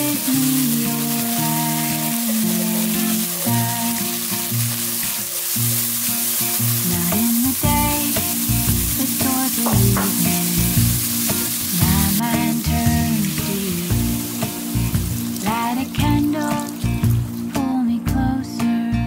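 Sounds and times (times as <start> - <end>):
spatula stirring in pan: 0.0 - 17.0
water poured into pan: 0.0 - 17.5
food sizzling in frying pan: 0.0 - 18.2
background music: 0.0 - 19.0.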